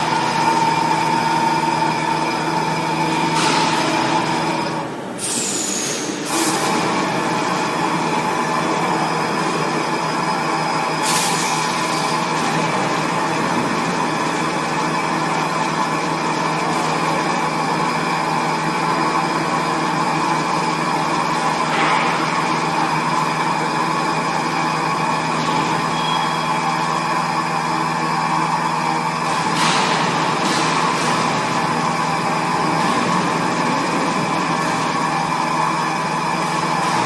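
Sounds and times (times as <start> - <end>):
machining center running: 0.0 - 5.3, 6.0 - 37.0.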